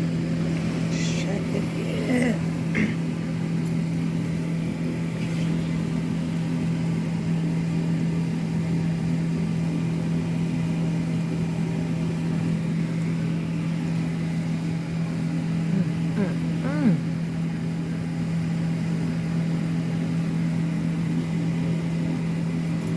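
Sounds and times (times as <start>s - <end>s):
kitchen appliance humming: 0.0s - 22.9s.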